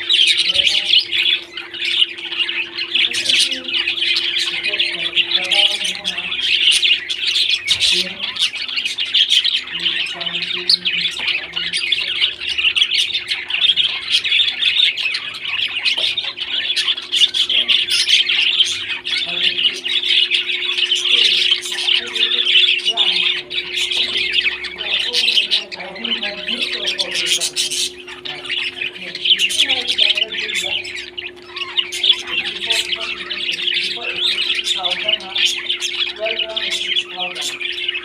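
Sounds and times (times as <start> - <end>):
parrots chattering and squawking: 0.0 - 38.0.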